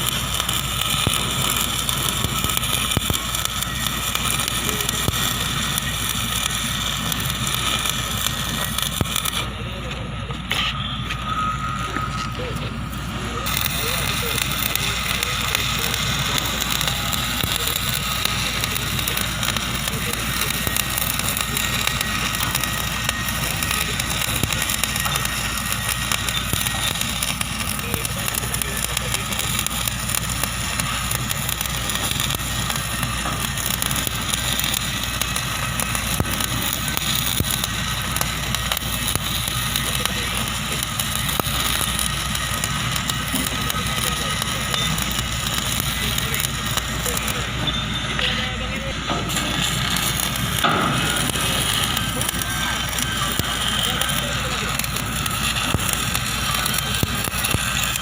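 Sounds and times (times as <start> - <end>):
welding arc crackling: 0.0 - 58.0.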